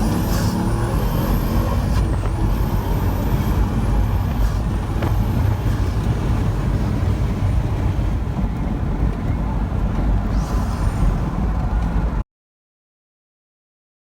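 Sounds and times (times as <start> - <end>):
car engine accelerating: 0.0 - 12.2.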